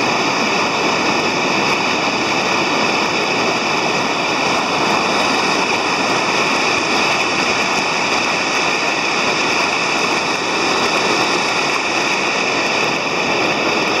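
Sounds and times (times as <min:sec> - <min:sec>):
water rushing down concrete steps: 0:00.0 - 0:14.0.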